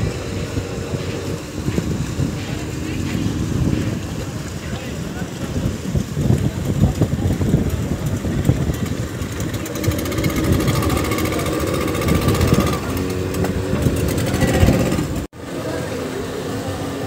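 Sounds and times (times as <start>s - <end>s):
outboard motors rumbling: 0.0s - 17.0s.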